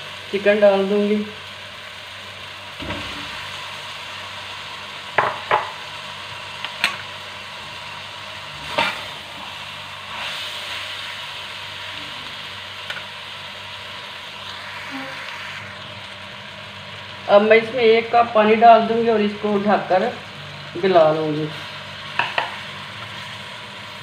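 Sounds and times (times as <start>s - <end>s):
chicken sizzling in a pot: 0.0s - 24.0s.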